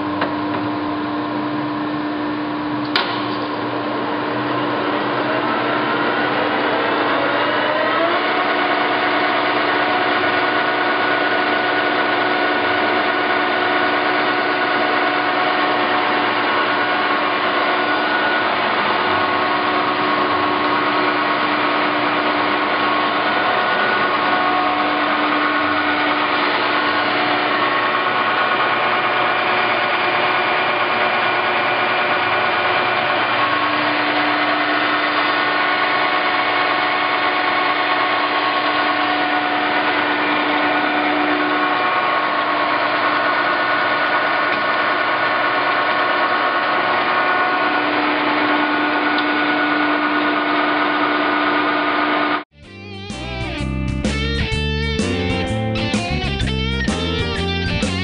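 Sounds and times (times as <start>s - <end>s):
lathe running with gear whine: 0.0s - 52.4s.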